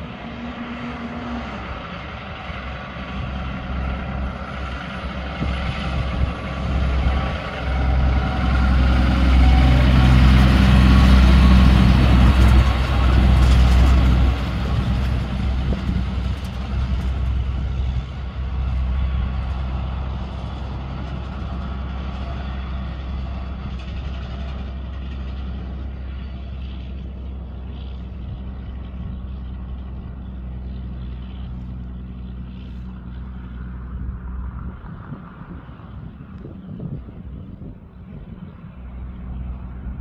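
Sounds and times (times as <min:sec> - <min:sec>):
truck diesel engine droning: 0:00.0 - 0:40.0.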